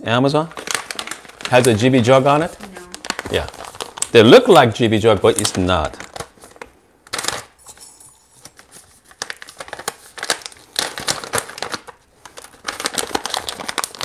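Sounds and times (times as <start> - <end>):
paper towel crinkling: 0.5 - 7.6, 8.3 - 14.0.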